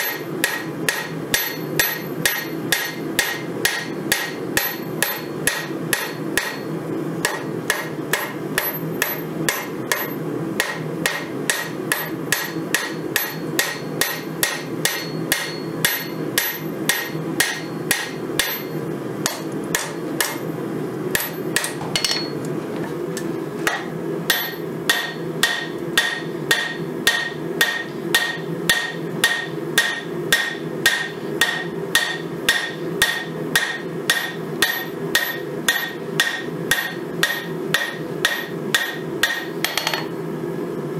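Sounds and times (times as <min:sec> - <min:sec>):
hammer ringing on anvil: 0:00.0 - 0:20.4, 0:21.2 - 0:22.4, 0:24.3 - 0:40.1
steady low hum: 0:00.0 - 0:40.9.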